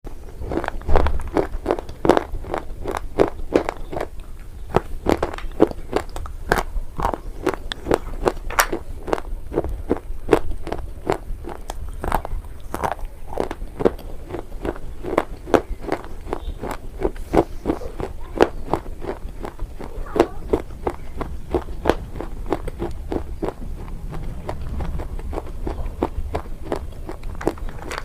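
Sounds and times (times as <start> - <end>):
chewing with sharp crunches: 0.1 - 28.0.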